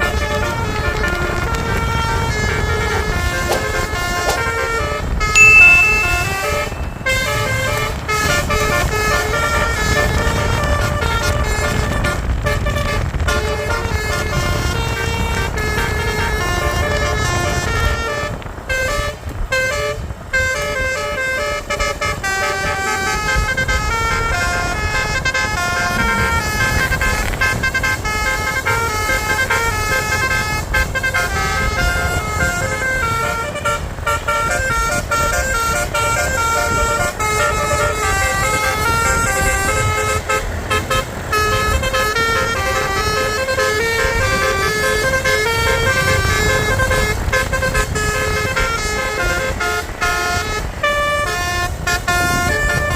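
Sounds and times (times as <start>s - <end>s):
bus engine and road rumble: 0.0s - 52.9s
musical bus horns: 0.0s - 52.9s.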